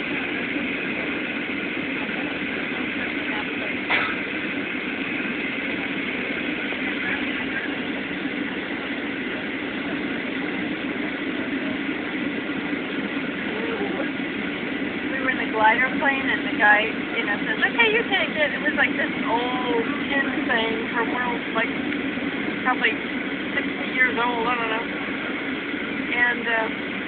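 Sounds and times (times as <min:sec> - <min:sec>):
jet engine cabin noise: 0:00.0 - 0:27.0
steady whine: 0:00.0 - 0:27.0.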